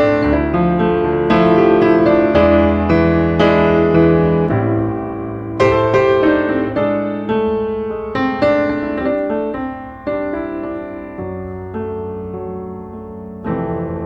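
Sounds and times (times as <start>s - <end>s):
gentle solo piano melody: 0.0s - 14.0s.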